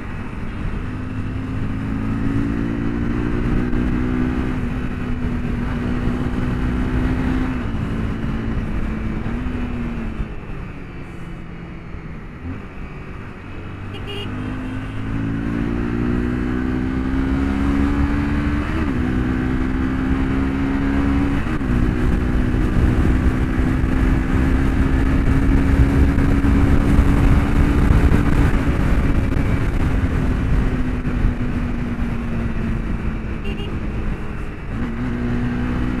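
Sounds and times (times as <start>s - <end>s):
motorcycle engine: 0.0s - 36.0s
wind and road noise: 0.0s - 36.0s.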